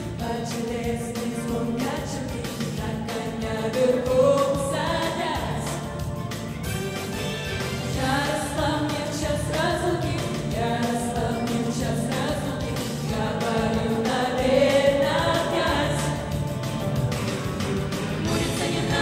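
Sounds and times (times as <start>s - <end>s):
female vocal group singing pop: 0.0s - 6.1s, 7.9s - 16.6s, 18.1s - 19.0s
accompaniment with steady beat: 0.0s - 19.0s.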